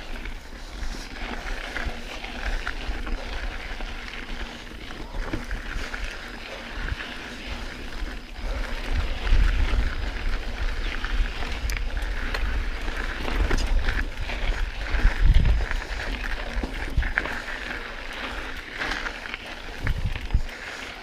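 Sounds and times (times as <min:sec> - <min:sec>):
tyres crunching over gravel: 0:00.0 - 0:21.0
wind rumble on microphone: 0:00.0 - 0:21.0.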